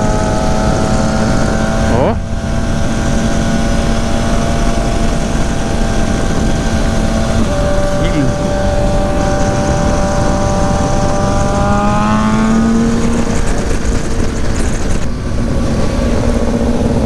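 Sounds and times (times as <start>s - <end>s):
motorcycle engine accelerating: 0.0s - 17.0s
wind rush on microphone: 0.0s - 17.0s.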